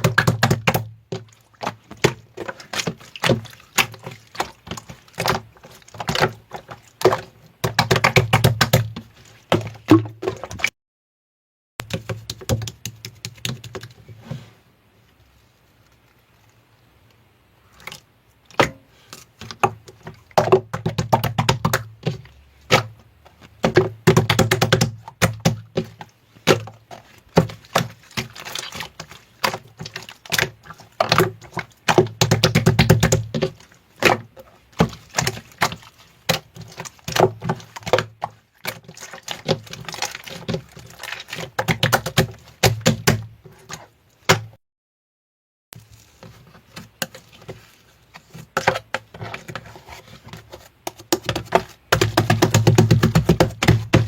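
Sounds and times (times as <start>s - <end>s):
slime squishing: 0.0s - 10.7s, 11.8s - 44.5s, 45.8s - 54.0s.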